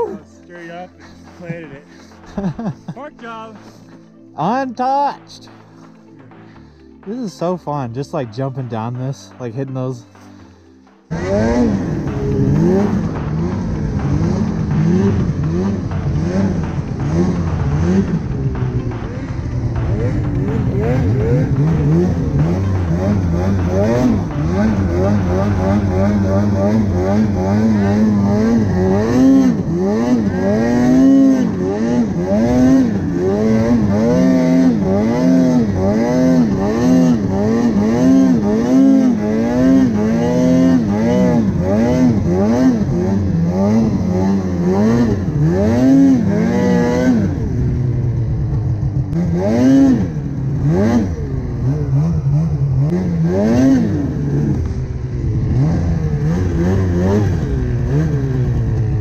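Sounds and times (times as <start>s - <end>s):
snowmobile engine revving: 11.1s - 59.0s.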